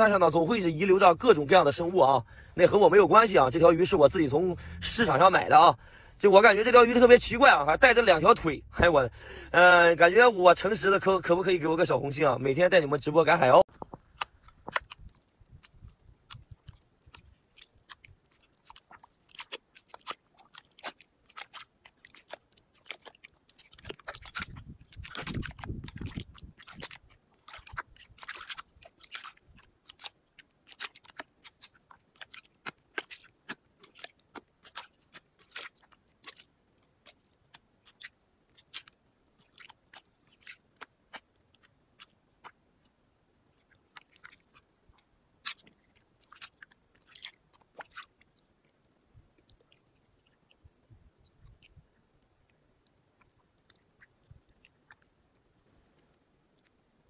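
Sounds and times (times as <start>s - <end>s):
digging in wet sand: 0.0s - 56.2s.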